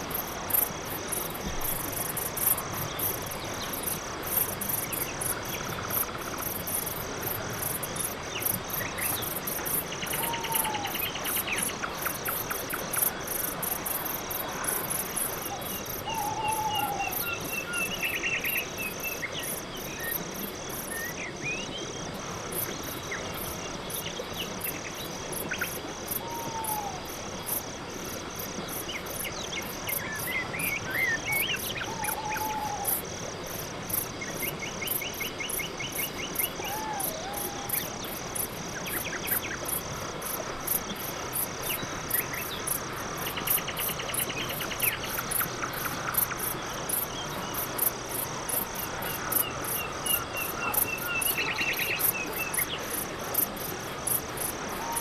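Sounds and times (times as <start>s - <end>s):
buzzy insect trills: 0.0s - 21.2s, 22.6s - 55.0s
crickets chirping: 0.0s - 55.0s.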